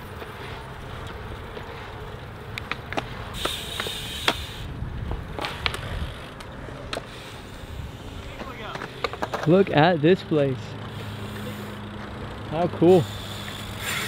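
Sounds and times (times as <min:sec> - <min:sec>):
bike clicks and rattles: 0:00.0 - 0:14.0
bike tyres rumbling on concrete: 0:00.0 - 0:14.0.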